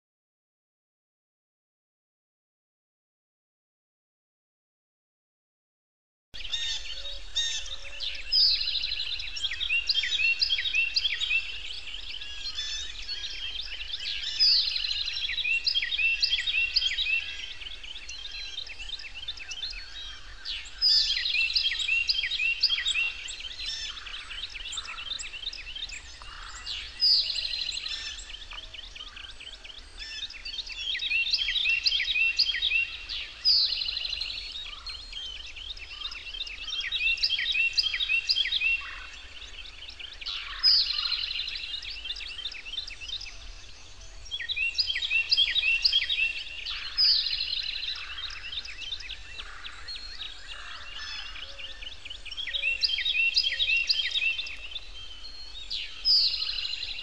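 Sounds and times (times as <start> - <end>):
bird singing: 6.4 - 57.0.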